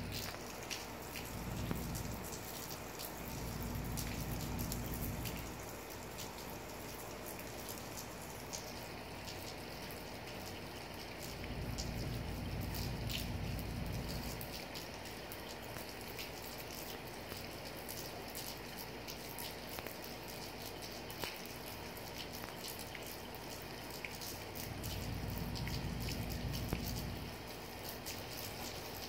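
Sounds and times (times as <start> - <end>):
rain on wet pavement: 0.0 - 29.0.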